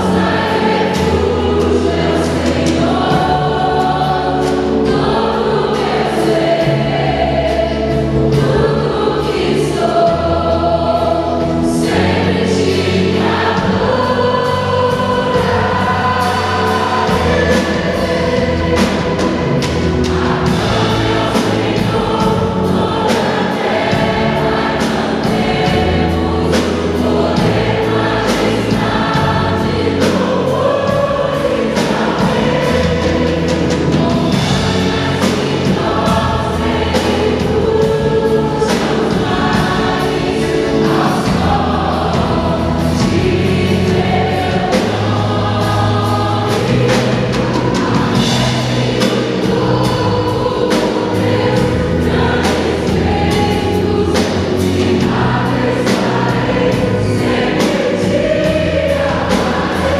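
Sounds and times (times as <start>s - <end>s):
band playing: 0.0s - 59.9s
drum kit beat: 0.0s - 59.9s
women singing in harmony: 0.0s - 59.9s.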